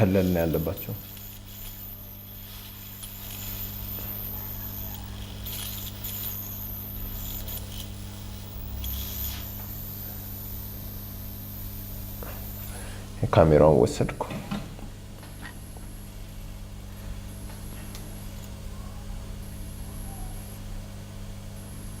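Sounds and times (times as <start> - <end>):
electrical hum with high whine: 0.0 - 22.0.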